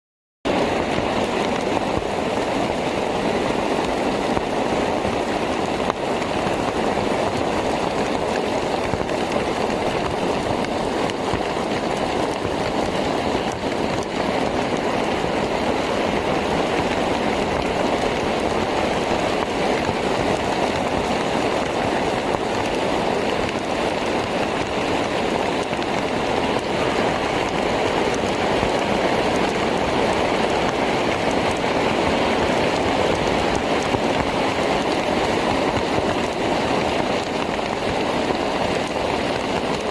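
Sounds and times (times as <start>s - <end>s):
steady rain falling: 0.5s - 39.9s.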